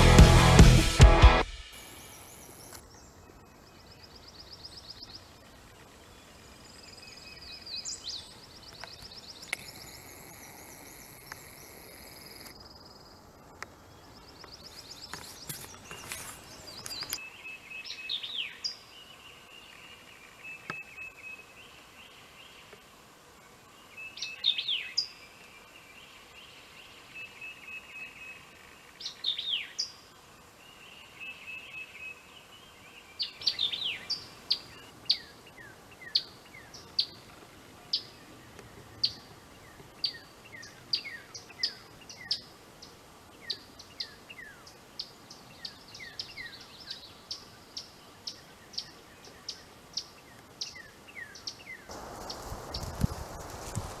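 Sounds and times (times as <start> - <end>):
background hiss: 0.0 - 54.0
songbirds singing: 1.8 - 53.2.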